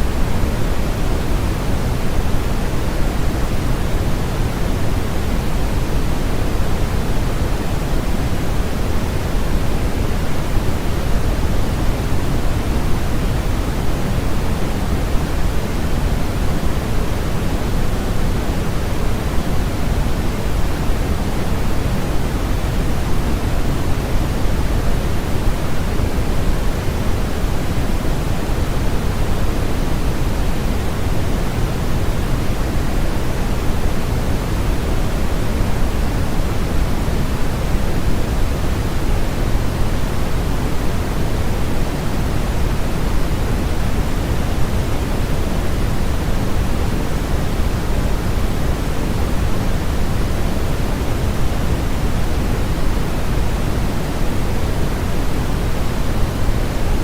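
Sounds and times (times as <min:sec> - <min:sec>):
steady synthetic hiss: 0:00.0 - 0:57.0.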